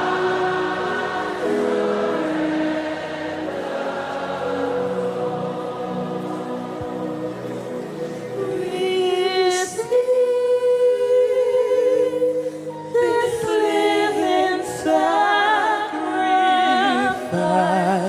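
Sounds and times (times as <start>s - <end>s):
person singing slowly with vibrato: 0.0s - 18.0s
soft sustained music: 0.0s - 18.0s.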